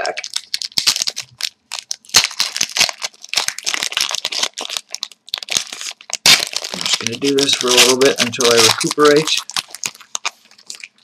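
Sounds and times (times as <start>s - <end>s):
foil wrappers crinkling: 0.0s - 11.0s.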